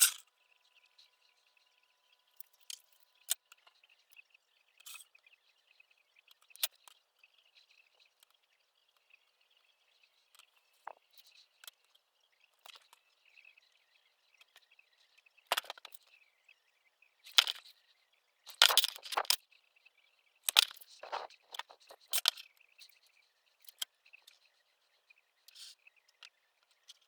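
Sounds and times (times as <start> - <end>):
faint high chirping: 0.0 - 27.0.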